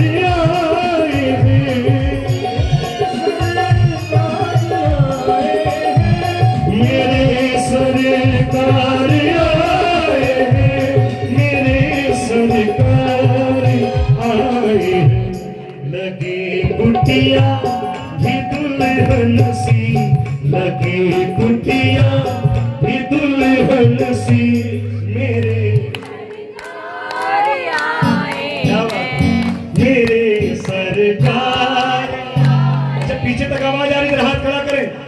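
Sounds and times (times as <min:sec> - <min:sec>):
devotional singing over drums: 0:00.0 - 0:35.0.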